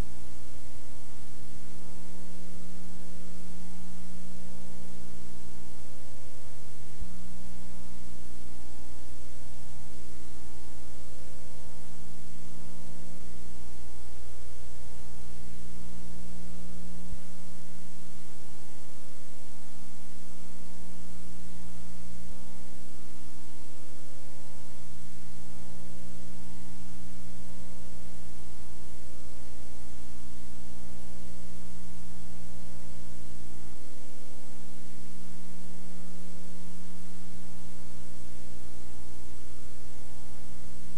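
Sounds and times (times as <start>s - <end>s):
mains hum with hiss: 0.0s - 40.9s.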